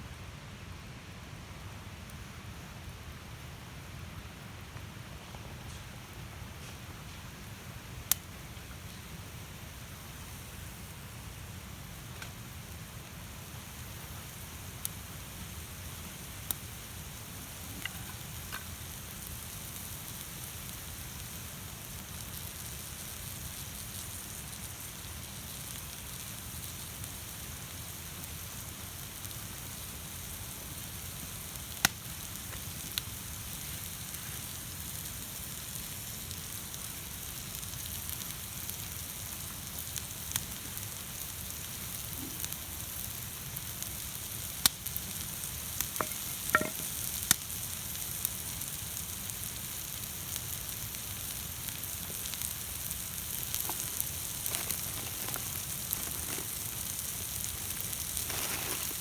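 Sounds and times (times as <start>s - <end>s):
food sizzling on hot plate: 6.6s - 59.0s.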